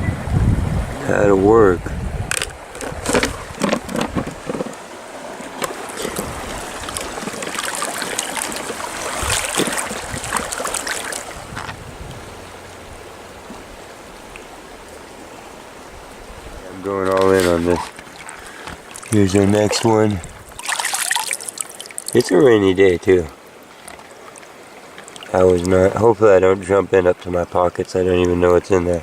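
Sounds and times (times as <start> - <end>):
river water splashing: 0.3 - 29.0.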